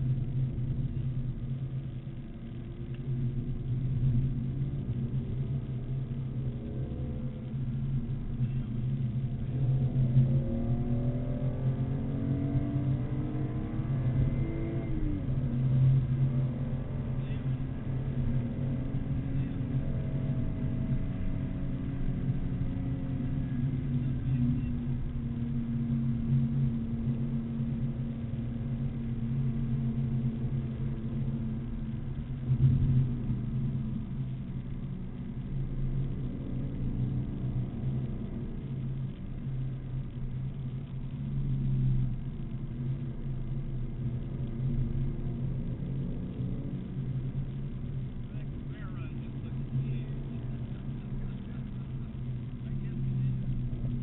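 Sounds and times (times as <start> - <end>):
car engine at speed: 0.0 - 54.0.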